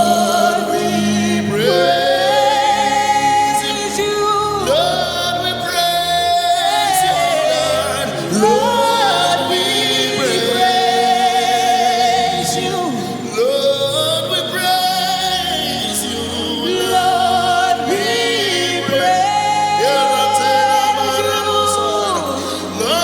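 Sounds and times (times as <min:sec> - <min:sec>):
sustained instrumental backing: 0:00.0 - 0:23.0.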